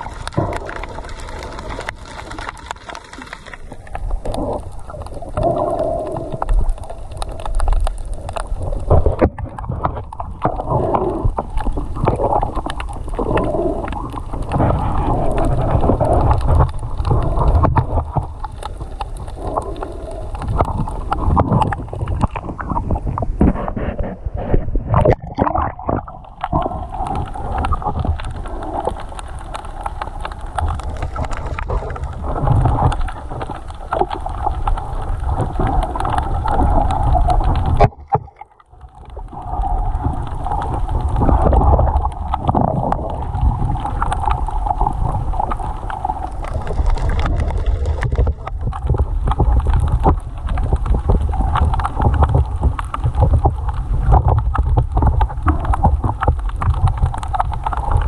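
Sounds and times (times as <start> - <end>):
muffled underwater rush: 0.0 - 58.0
underwater clicks: 0.0 - 58.0.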